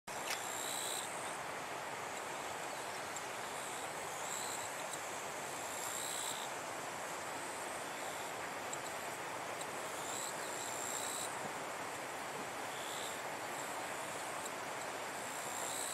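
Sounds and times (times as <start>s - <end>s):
steady outdoor hiss: 0.1s - 15.9s.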